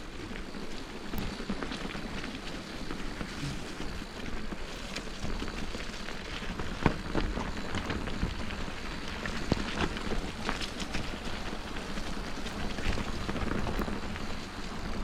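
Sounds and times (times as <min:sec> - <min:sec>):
bicycle tyre noise on trail: 0:00.0 - 0:15.0
bike rattling and clicking: 0:00.0 - 0:15.0.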